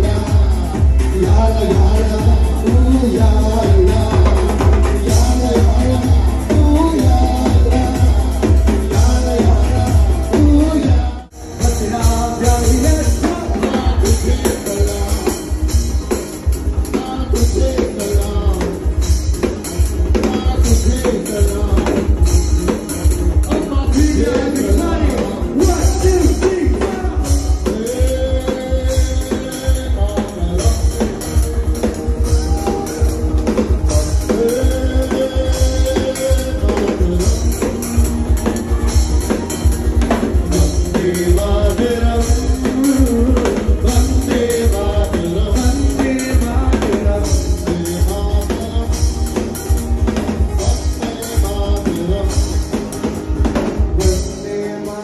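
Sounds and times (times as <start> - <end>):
acoustic guitar: 0.0 - 55.0
drum kit beat: 0.0 - 55.0
man singing lead vocals: 0.0 - 55.0.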